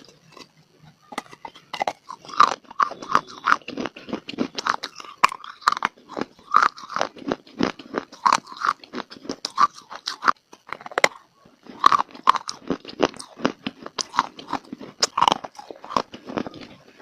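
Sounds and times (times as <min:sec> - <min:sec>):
crunching and chewing clay: 0:00.0 - 0:17.0.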